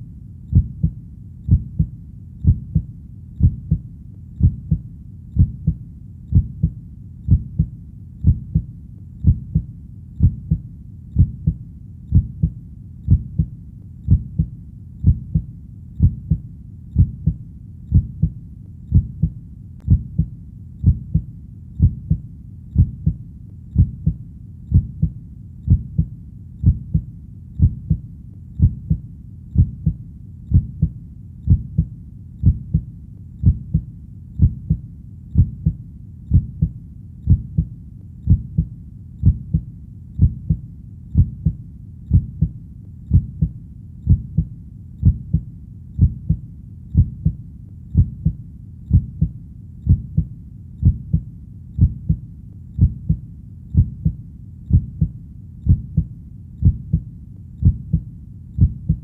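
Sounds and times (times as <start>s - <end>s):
faint low background: 0.0s - 59.0s
heartbeat thumps: 0.5s - 59.0s.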